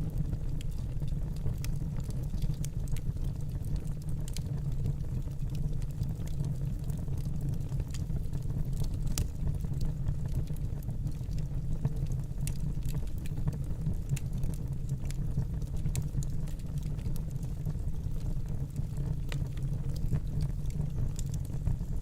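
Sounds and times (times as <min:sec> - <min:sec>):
fire crackles and pops: 0:00.0 - 0:22.0
fire flames rumbling: 0:00.0 - 0:22.0.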